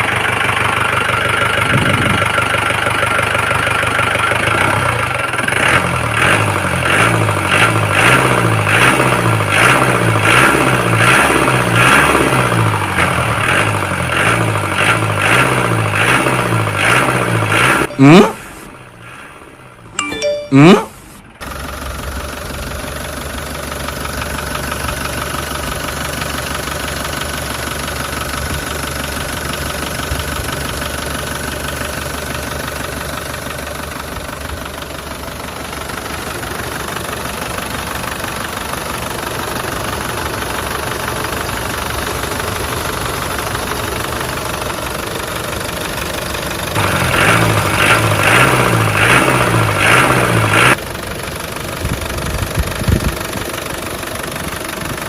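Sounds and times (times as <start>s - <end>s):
engine idling and chugging: 0.0s - 55.0s.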